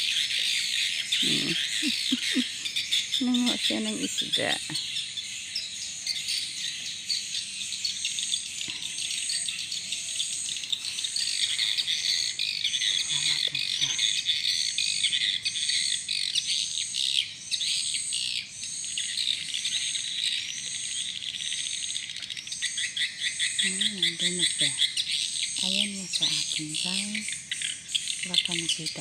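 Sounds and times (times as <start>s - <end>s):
bird calls: 0.0s - 29.0s
cricket chirps: 0.0s - 29.0s
insects buzzing: 0.0s - 29.0s.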